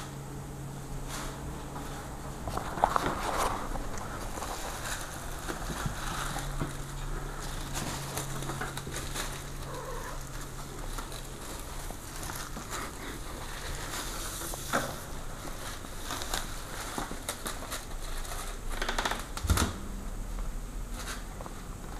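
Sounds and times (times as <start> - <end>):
plastic bag rustling and crinkling: 1.0 - 19.4.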